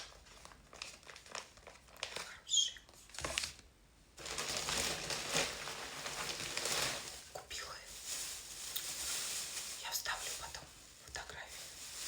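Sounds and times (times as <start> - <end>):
packaging rustling: 0.0 - 2.4, 4.2 - 12.0
wrapping crinkling: 0.0 - 3.6, 4.2 - 12.0.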